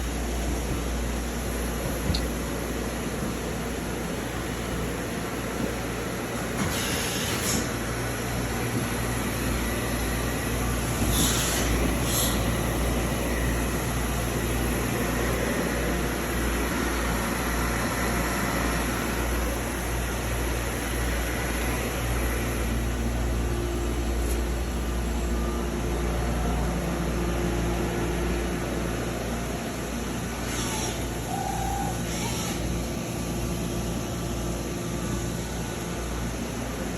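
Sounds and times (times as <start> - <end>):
machining center humming: 0.0 - 6.7, 7.6 - 36.9.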